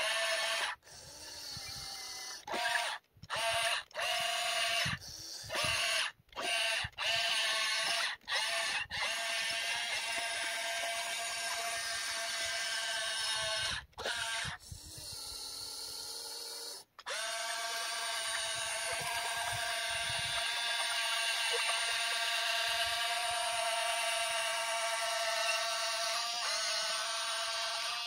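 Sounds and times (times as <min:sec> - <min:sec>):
toy excavator motors whining: 0:00.0 - 0:28.0.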